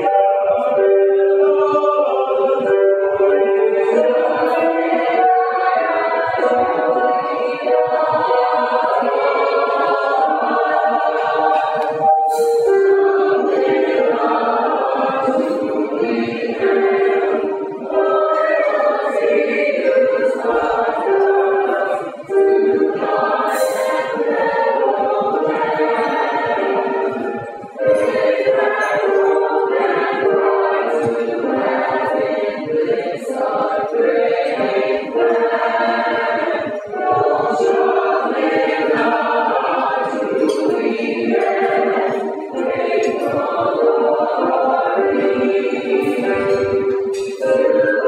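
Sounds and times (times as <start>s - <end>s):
mixed choir singing: 0.0s - 48.0s.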